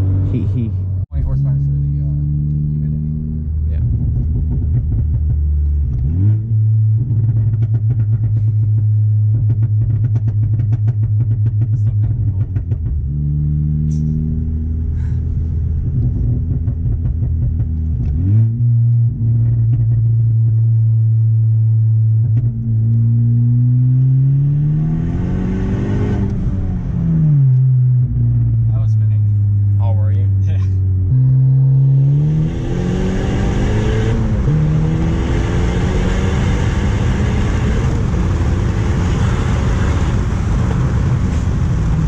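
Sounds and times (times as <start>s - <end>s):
car engine revving from inside: 0.0s - 28.7s, 30.3s - 42.0s.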